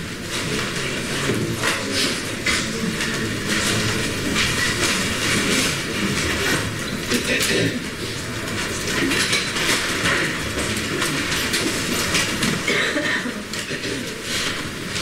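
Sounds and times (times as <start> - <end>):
many low conversations: 0.0 - 15.0.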